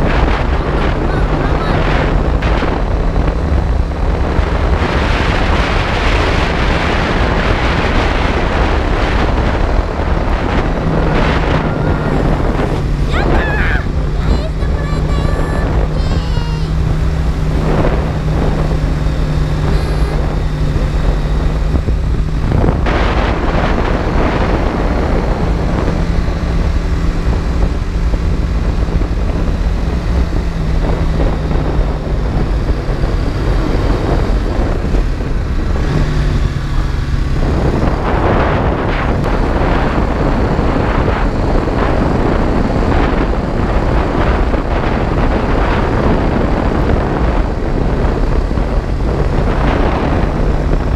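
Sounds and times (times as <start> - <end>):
motorcycle engine running: 0.0 - 50.9
wind rushing over microphone: 0.0 - 50.9.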